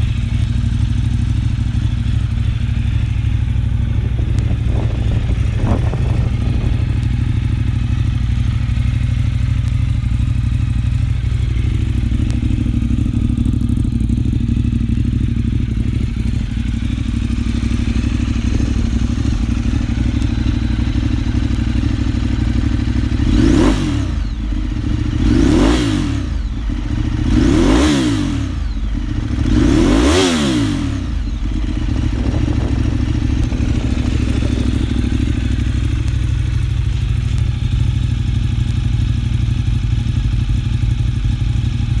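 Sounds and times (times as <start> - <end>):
motorcycle engine idling and revving: 0.0 - 42.0.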